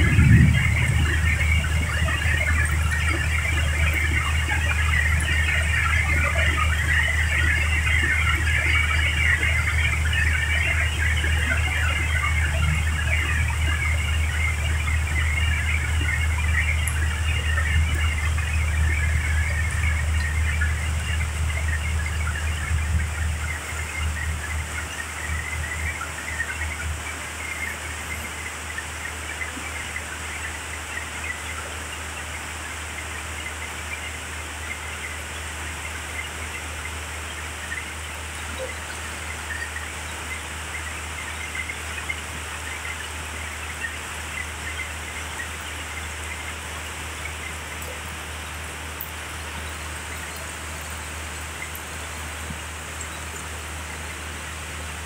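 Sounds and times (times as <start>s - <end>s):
heavy rain on pavement: 0.0s - 55.0s
steady low hum: 0.0s - 55.0s.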